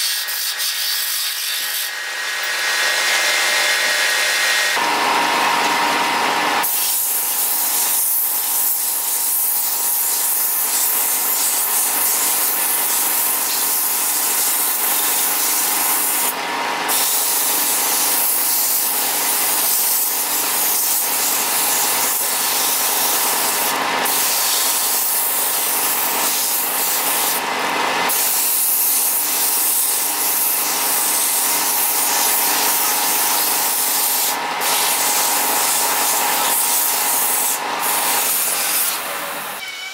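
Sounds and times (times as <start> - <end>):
sandpaper hissing on wood: 0.0 - 2.0, 6.6 - 27.5, 28.1 - 39.6
lathe running tone: 1.0 - 8.4, 11.0 - 39.9.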